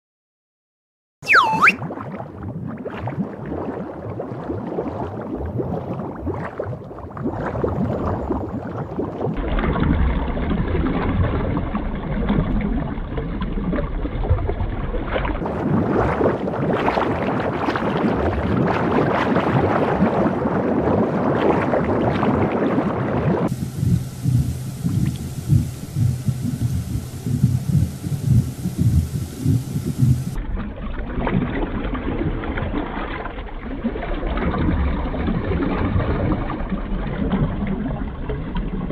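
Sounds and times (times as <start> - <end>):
low underwater rumble: 1.3 - 38.9
rushing bubbling water: 1.3 - 38.9.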